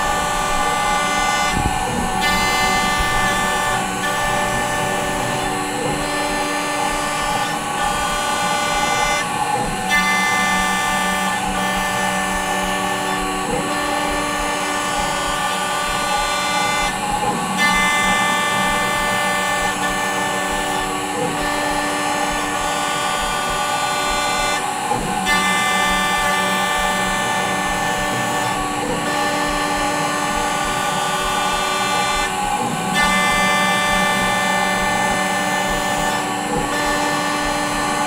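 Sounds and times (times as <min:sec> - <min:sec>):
cnc mill motors whining: 0:00.0 - 0:38.0.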